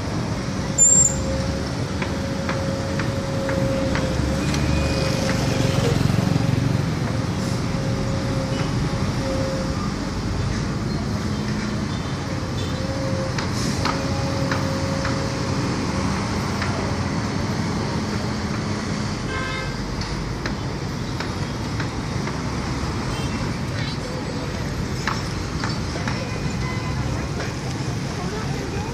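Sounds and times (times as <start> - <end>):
road traffic and engine hum: 0.0 - 28.9.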